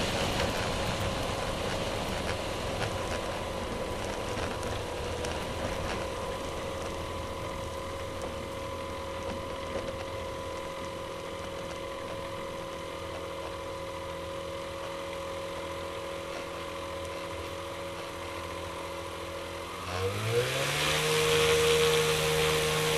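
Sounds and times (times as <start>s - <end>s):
constant whine: 0.0s - 22.9s
light aircraft engine idling: 0.0s - 22.9s.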